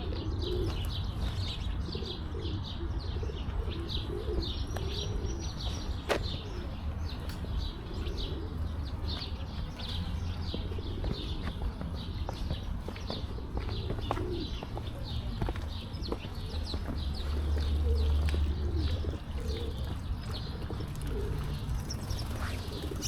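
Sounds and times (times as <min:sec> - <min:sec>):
pigeons cooing: 0:00.0 - 0:23.0
small birds chirping: 0:00.1 - 0:23.0.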